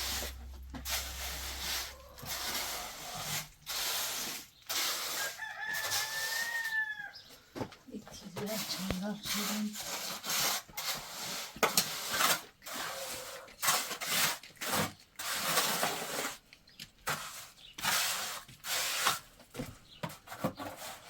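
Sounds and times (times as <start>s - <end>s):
rough scraping strokes: 0.0s - 7.0s, 8.2s - 19.4s.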